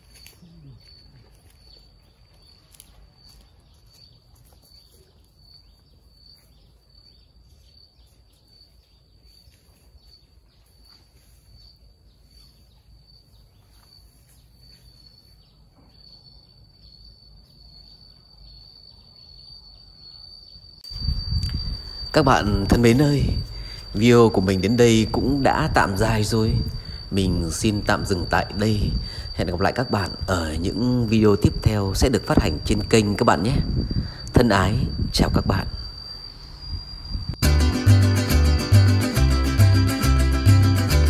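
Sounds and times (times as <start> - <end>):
insect chirping: 0.0 - 41.0.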